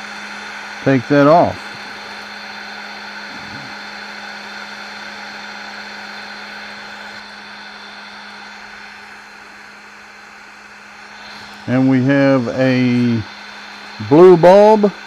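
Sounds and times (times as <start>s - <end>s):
wood lathe running: 0.0s - 15.0s.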